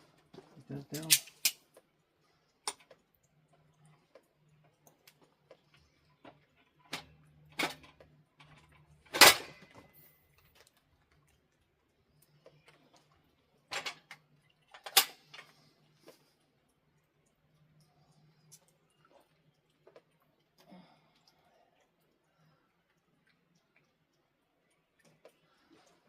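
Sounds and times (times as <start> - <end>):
faint low hum: 1.7 - 26.0.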